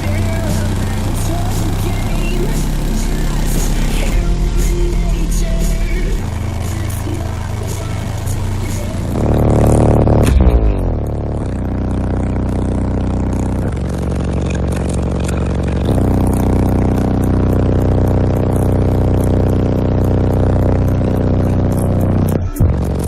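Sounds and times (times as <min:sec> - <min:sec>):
car panels buzzing and rattling: 0:00.0 - 0:23.0
loud bass music through subwoofers: 0:00.0 - 0:23.0.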